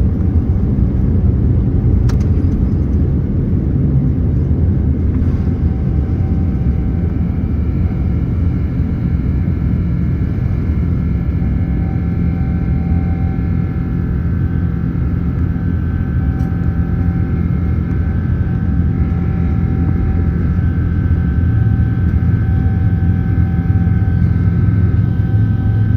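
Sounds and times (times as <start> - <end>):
airliner cabin engine rumble: 0.0 - 25.9
faint whining tones: 0.0 - 25.9.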